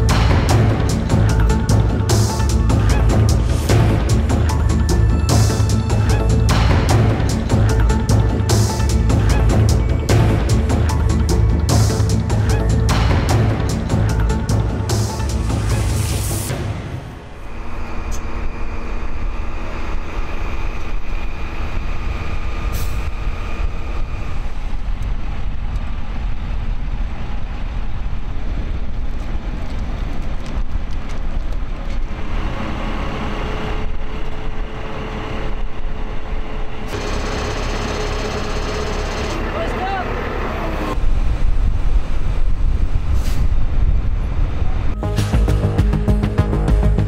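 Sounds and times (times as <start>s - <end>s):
diesel truck engines rumbling: 0.0s - 47.0s.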